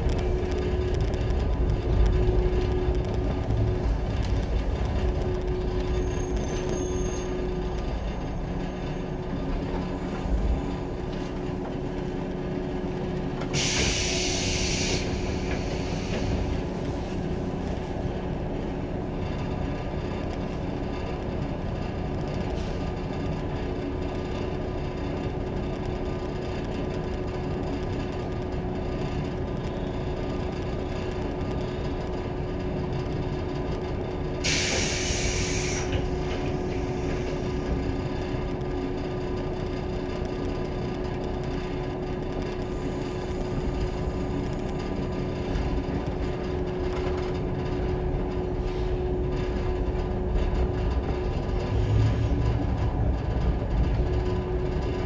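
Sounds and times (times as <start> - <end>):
train wheel and motor noise: 0.0 - 55.0.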